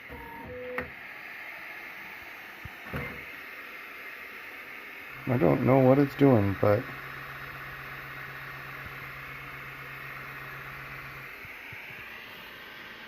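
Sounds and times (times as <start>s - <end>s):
printer fans whirring: 0.0s - 13.0s.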